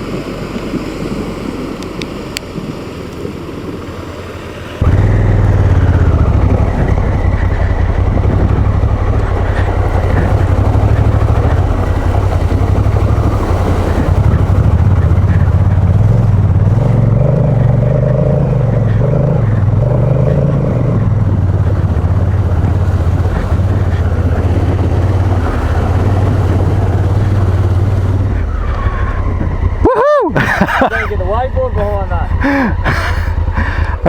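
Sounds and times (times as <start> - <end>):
motorcycle engine running: 0.0 - 34.0
road and wind noise: 0.0 - 34.0.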